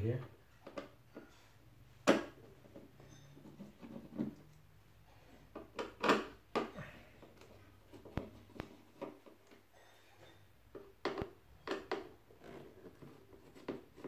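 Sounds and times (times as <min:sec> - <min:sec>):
knocks and scrapes of tools: 0:00.4 - 0:04.5, 0:05.1 - 0:14.0.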